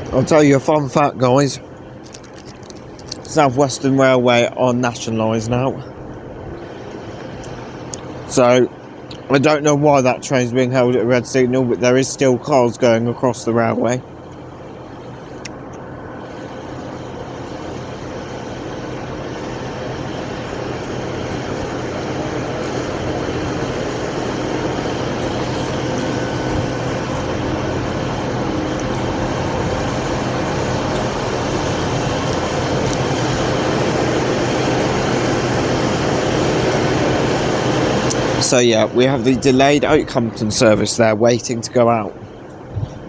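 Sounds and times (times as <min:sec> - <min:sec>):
diesel train engine humming: 0:00.0 - 0:43.0.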